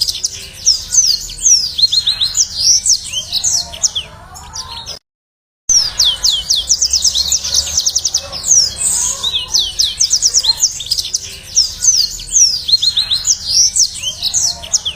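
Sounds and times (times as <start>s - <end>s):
canary singing trills: 0.0s - 5.0s, 5.7s - 14.9s.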